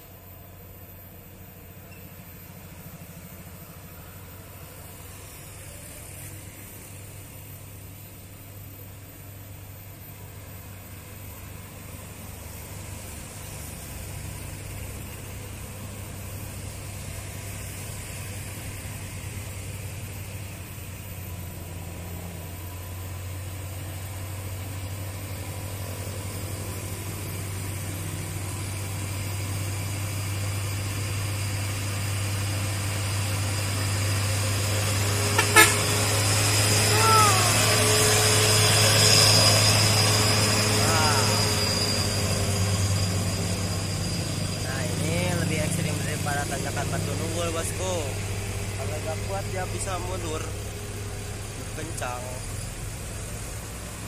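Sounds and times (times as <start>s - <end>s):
truck diesel engine drone: 0.0s - 54.0s.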